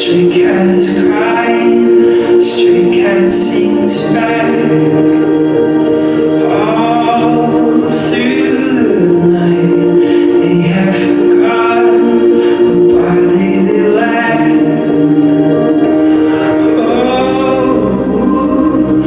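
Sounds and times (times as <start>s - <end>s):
person singing long held notes: 0.0s - 19.0s.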